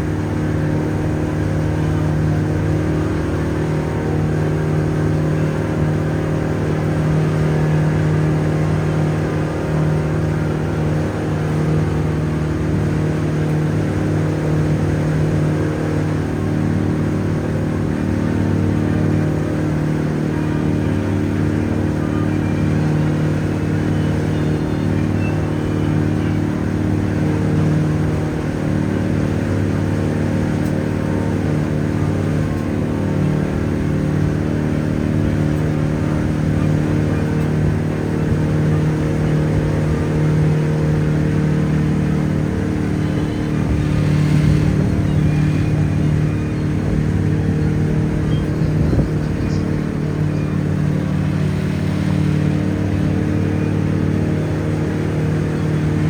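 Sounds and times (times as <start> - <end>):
boat engine humming: 0.0 - 56.0
water and hull noise: 0.0 - 56.0.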